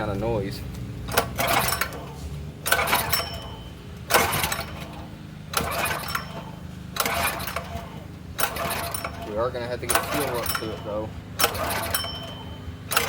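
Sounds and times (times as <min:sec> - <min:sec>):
engine recoil starter pulls: 0:01.1 - 0:13.0.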